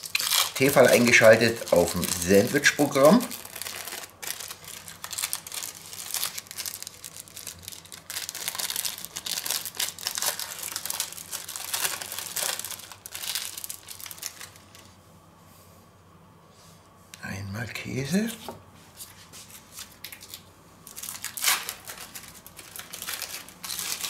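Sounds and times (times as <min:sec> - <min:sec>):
plastic wrapping crinkling: 0:00.0 - 0:15.0, 0:19.0 - 0:24.0.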